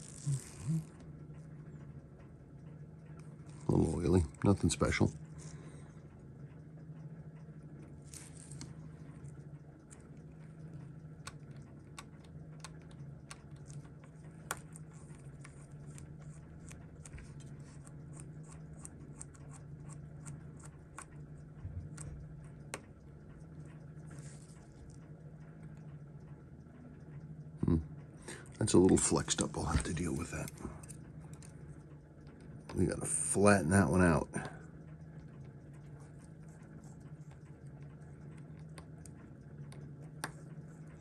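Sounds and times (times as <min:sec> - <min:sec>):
low hum: 0:00.0 - 0:41.0.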